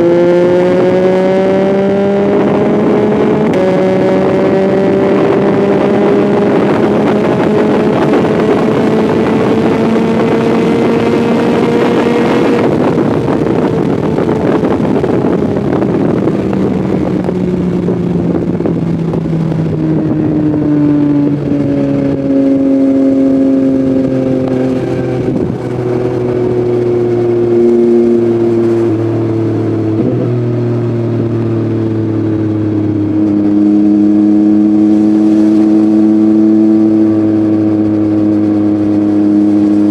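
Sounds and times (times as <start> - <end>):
heavy wind rush: 0.0 - 39.9
motorcycle engine revving: 0.0 - 39.9.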